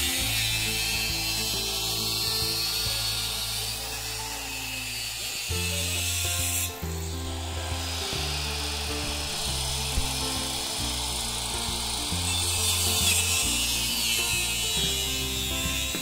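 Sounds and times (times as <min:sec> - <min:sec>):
slow low sustained music: 0:00.0 - 0:16.0
steady high hiss: 0:00.0 - 0:16.0.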